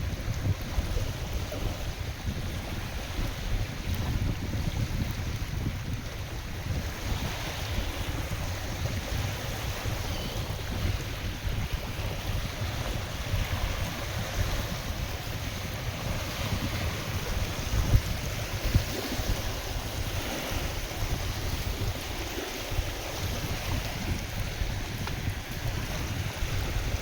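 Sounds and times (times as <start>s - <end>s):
waves washing on a lake: 0.0s - 27.0s
wind buffeting microphone: 0.0s - 27.0s.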